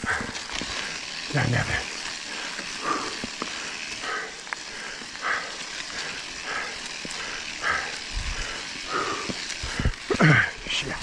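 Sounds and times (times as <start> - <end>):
person breathing hard: 0.0 - 1.1, 2.2 - 10.6
bike clicks and rattles: 0.0 - 11.0
tyres rolling on leafy dirt: 0.0 - 11.0.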